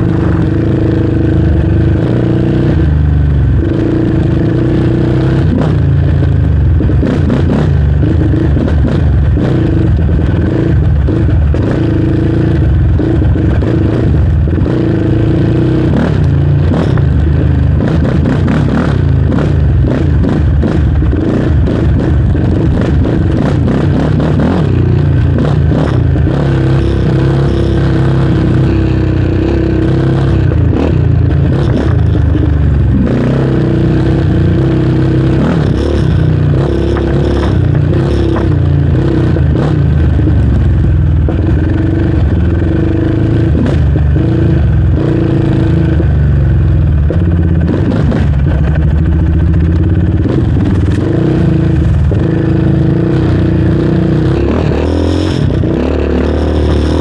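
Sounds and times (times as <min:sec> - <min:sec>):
quad engine revving: 0:00.0 - 0:57.0.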